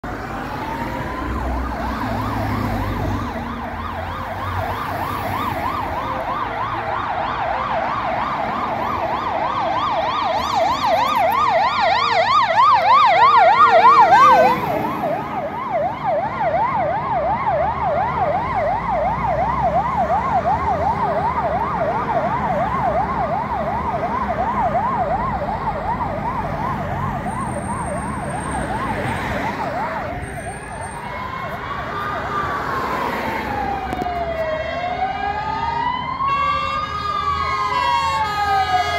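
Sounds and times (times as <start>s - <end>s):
fire engine siren yelping: 0.0s - 38.9s
road traffic: 0.0s - 38.9s.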